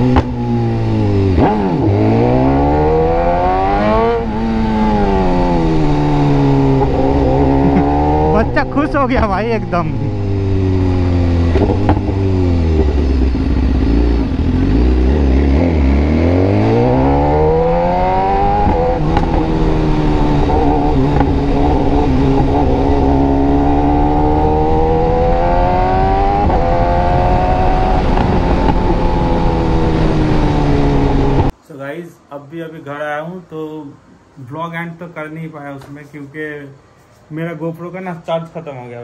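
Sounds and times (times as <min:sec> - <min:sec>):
motorcycle engine revving: 0:00.0 - 0:31.5.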